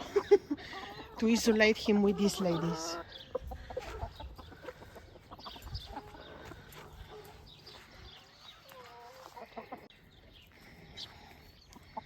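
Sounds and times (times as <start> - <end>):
drawn-out chicken call: 0.0 - 9.9
chickens clucking: 0.0 - 12.0.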